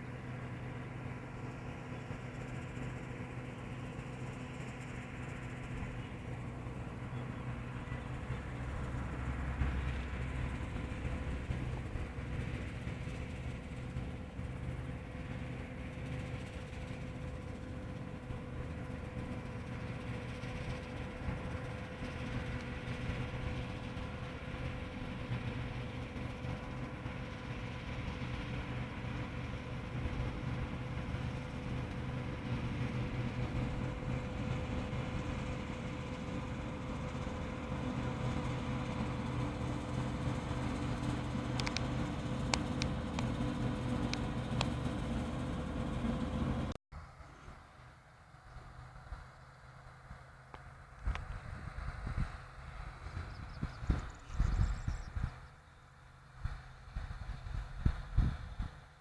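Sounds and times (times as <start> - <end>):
combine harvester engine drone: 0.0 - 59.0
thin machinery whine: 0.0 - 59.0.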